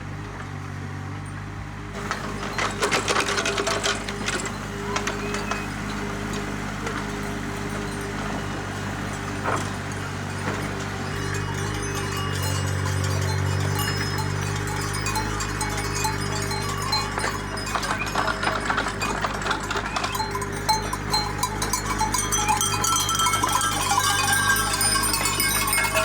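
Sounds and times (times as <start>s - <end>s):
animal bells clanking: 2.0s - 26.0s.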